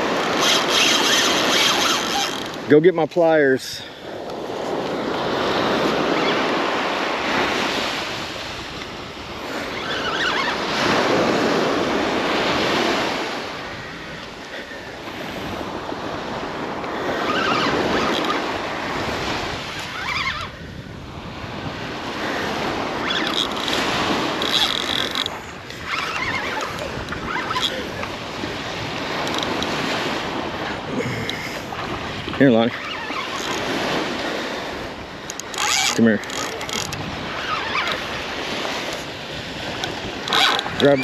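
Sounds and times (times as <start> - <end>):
surf breaking on beach: 0.0 - 41.0
wind buffeting microphone: 0.0 - 41.0.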